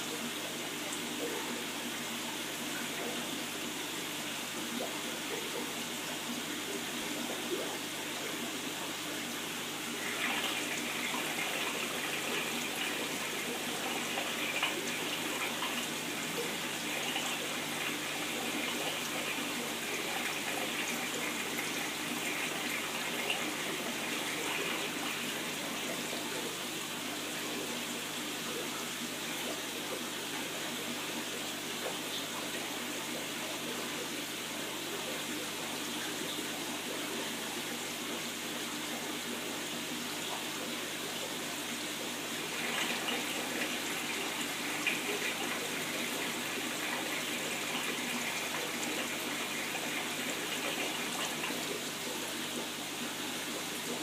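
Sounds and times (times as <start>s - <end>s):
aquarium water running and splashing: 0.0s - 54.0s.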